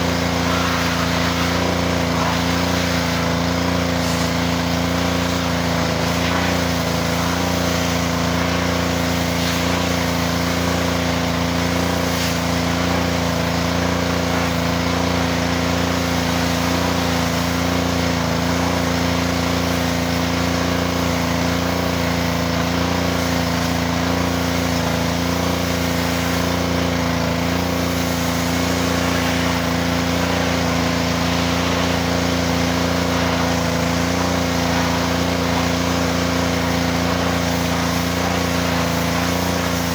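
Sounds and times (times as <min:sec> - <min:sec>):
small engine droning: 0:00.0 - 0:39.9
water spray hissing: 0:00.0 - 0:39.9.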